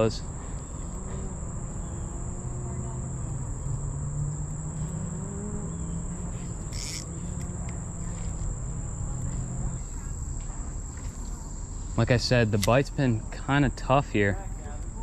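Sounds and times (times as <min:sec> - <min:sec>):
high-pitched insect chorus: 0:00.0 - 0:15.0
low steady hum: 0:00.0 - 0:15.0.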